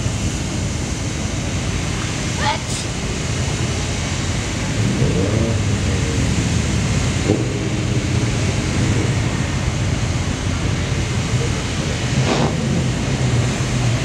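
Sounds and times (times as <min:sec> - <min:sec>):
car engines idling: 0:00.0 - 0:14.0
constant rushing noise: 0:00.0 - 0:14.0.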